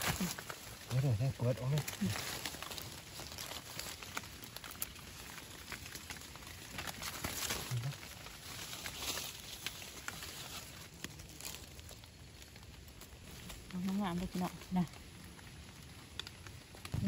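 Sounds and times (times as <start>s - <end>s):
footsteps in wet leaves: 0.0s - 17.0s
twigs crackling underfoot: 0.0s - 17.0s.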